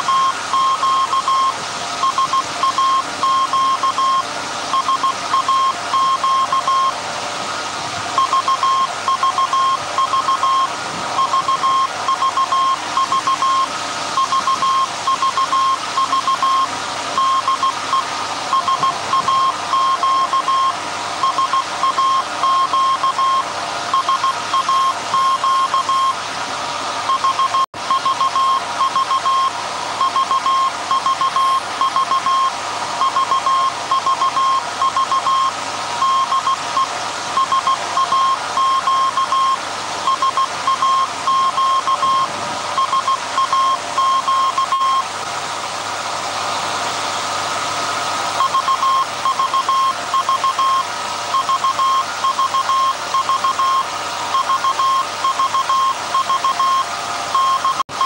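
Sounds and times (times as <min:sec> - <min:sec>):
morse code beeps: 0:00.0 - 0:07.0, 0:08.2 - 0:26.2, 0:27.1 - 0:45.1, 0:48.4 - 0:58.0
machinery humming: 0:00.0 - 0:58.0.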